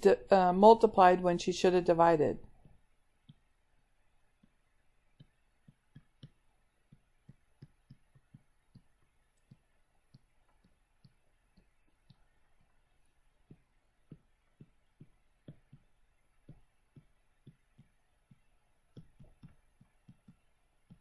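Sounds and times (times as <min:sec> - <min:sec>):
stylus tapping on tablet screen: 0:02.4 - 0:21.0.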